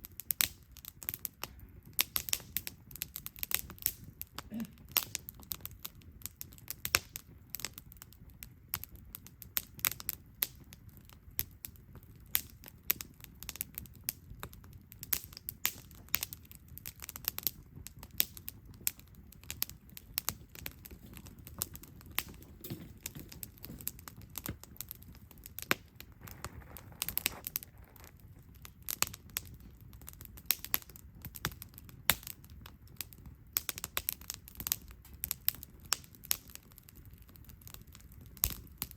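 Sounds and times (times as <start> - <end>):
campfire crackling and popping: 0.0 - 38.9
low sound of flames: 0.0 - 38.9.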